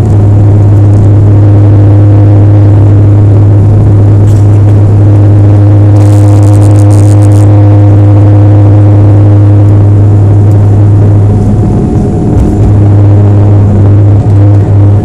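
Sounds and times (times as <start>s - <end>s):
airliner engines droning: 0.0s - 15.0s.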